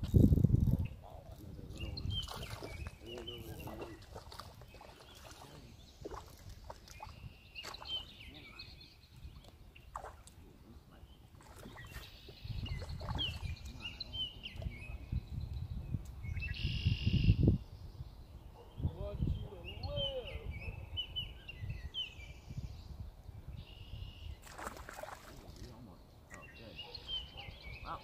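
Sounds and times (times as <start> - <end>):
small birds chirping: 0.1 - 28.0.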